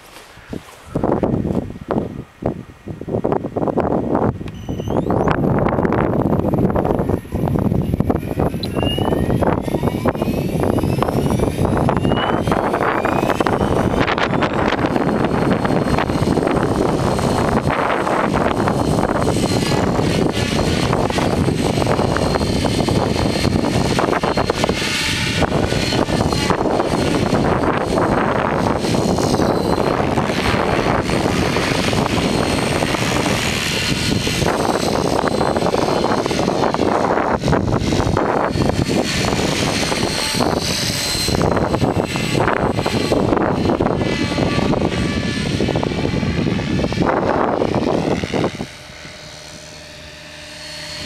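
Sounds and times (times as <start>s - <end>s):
rc helicopter motor whine: 0.0s - 51.0s
wind buffeting microphone: 0.0s - 51.0s.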